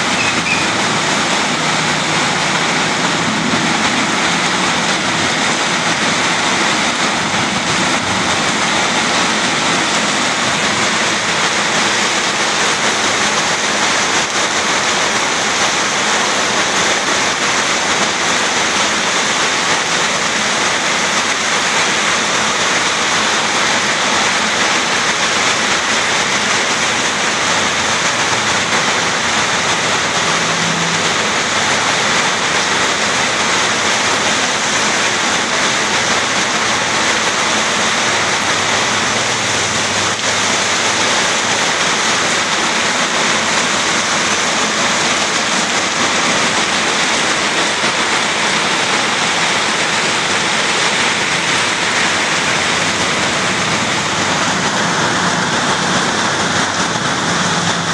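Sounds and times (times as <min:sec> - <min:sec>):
heavy rain pouring on street and roofs: 0:00.0 - 0:57.9.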